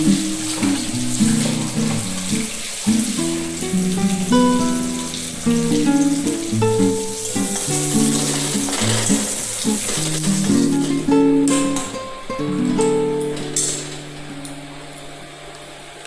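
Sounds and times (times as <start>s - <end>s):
food sizzling in a pan: 0.0s - 16.0s
plucked guitar music: 0.0s - 16.0s.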